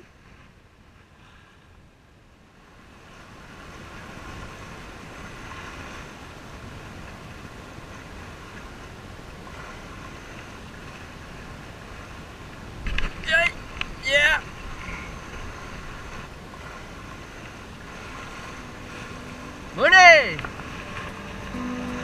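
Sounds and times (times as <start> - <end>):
sea water washing against pier: 2.4 - 22.0
wind on microphone: 2.6 - 22.0.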